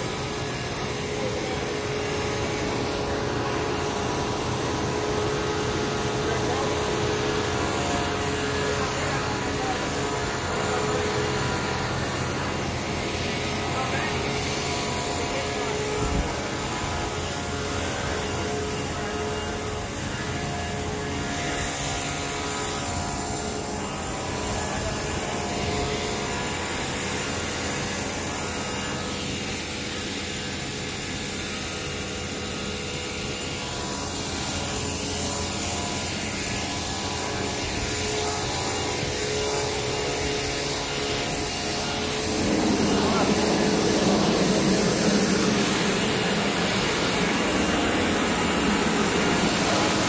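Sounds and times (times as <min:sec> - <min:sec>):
mechanical drone with high whine: 0:00.0 - 0:50.0.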